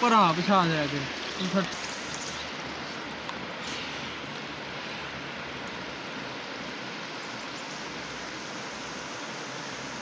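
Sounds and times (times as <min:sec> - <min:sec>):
rushing river water: 0:00.0 - 0:10.0.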